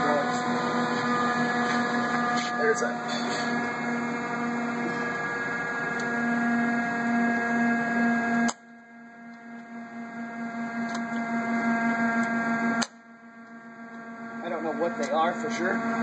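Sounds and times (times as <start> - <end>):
hydraulic pump and motor hum: 0.0 - 16.0
pulsing hum: 0.0 - 16.0.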